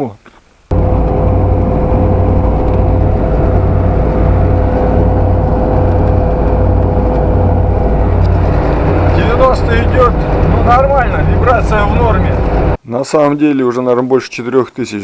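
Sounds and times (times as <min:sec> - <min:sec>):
car interior engine and road drone: 0:00.7 - 0:12.8
thin steady whine: 0:00.7 - 0:12.8.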